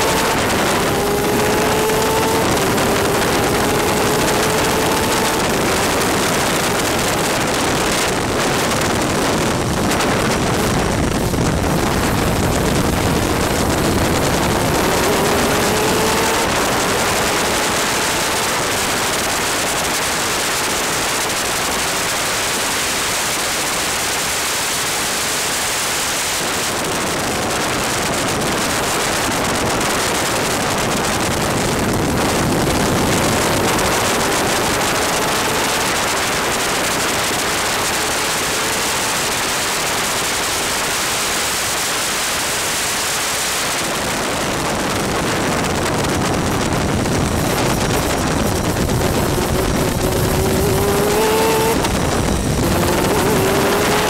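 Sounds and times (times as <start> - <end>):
two-stroke engine: 0.0 - 54.0
wind and water spray rush: 0.0 - 54.0.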